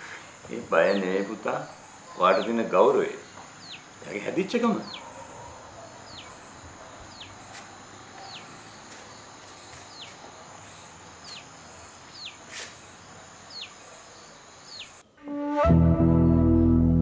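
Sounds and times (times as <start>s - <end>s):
bird calling: 0.0s - 15.0s
insect drone: 0.0s - 15.3s.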